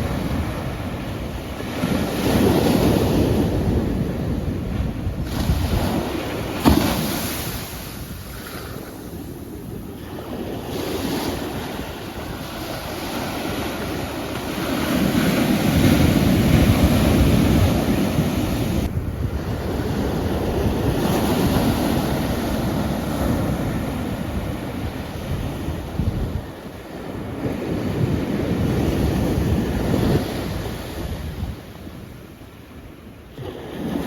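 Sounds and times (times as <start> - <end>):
ocean waves washing onto shore: 0.0 - 34.0.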